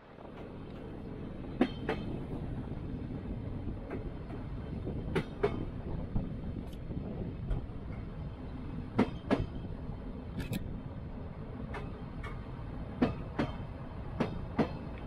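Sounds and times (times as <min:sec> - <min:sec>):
wheels clicking over rail joints: 0:00.0 - 0:10.8, 0:11.4 - 0:15.0
train rumbling on rails: 0:00.0 - 0:15.0.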